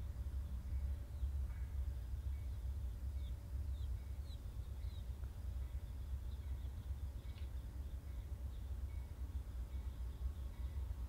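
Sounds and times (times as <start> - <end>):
low steady rumble: 0.0 - 11.0
bird chirping: 0.3 - 11.0.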